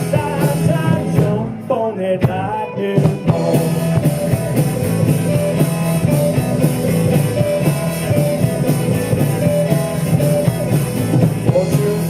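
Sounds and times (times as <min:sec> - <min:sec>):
bass guitar: 0:00.0 - 0:12.0
drum kit beat: 0:00.0 - 0:12.0
electric guitars: 0:00.0 - 0:12.0.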